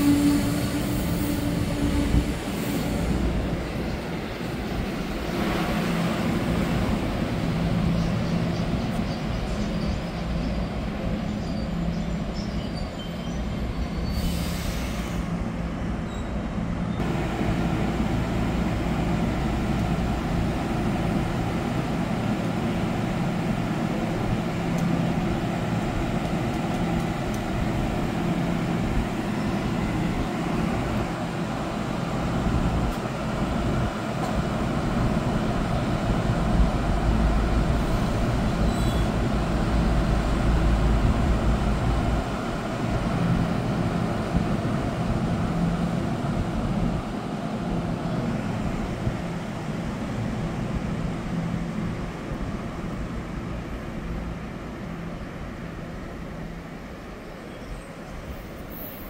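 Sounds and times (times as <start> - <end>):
train low rumble and hum: 0.0 - 59.0.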